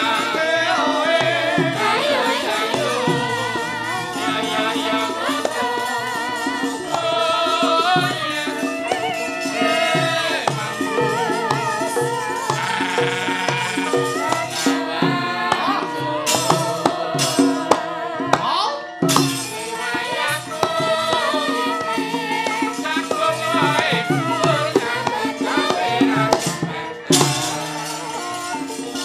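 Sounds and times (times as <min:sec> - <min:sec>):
gamelan playing fast music: 0:00.0 - 0:29.0.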